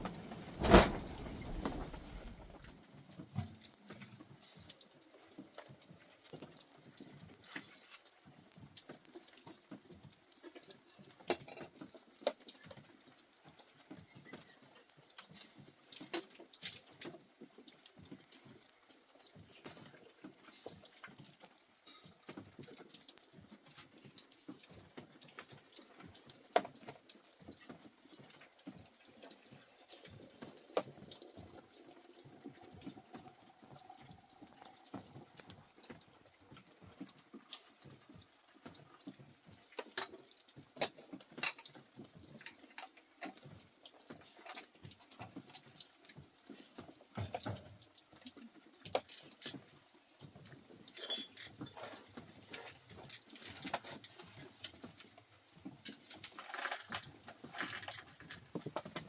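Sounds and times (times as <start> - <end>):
light tapping and patter: 0.0 - 59.0.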